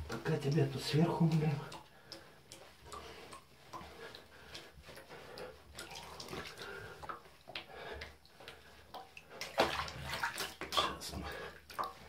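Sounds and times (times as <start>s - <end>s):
bathwater splashing: 0.0s - 12.0s.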